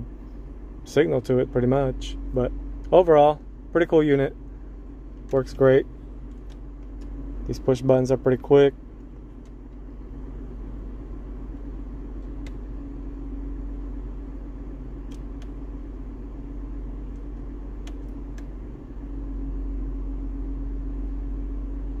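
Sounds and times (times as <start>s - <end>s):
faint steady hum: 0.0s - 22.0s
vehicle rumbling: 0.0s - 22.0s.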